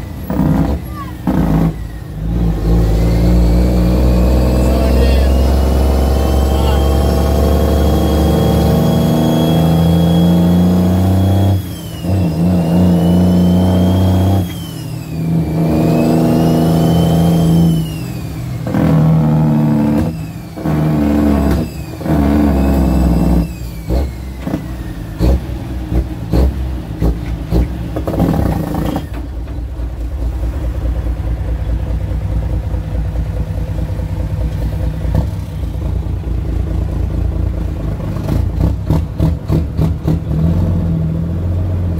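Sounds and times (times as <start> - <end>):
diesel truck engine shifting gears: 0.0 - 41.9.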